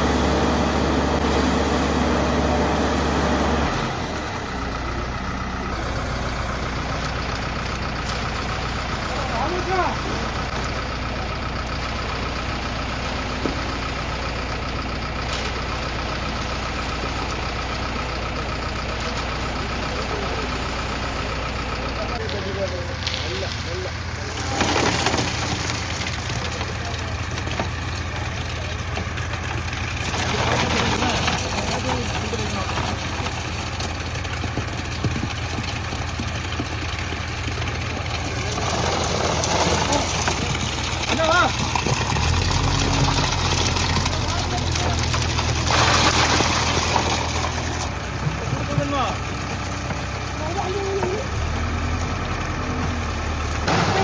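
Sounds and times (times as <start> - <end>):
concrete mixer engine running: 0.0 - 54.0.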